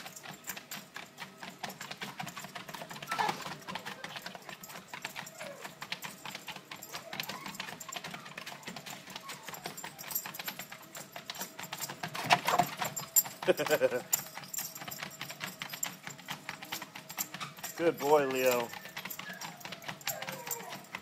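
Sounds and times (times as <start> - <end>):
dog claws tapping on treadmill: 0.0 - 21.0
faint treadmill hum: 0.0 - 21.0.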